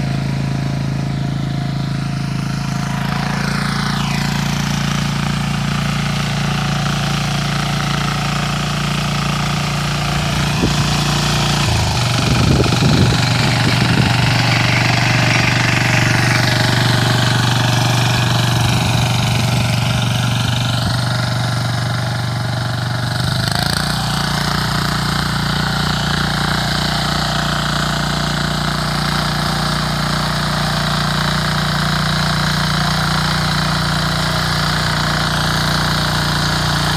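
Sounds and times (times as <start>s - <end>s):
small petrol engine running: 0.0s - 36.9s.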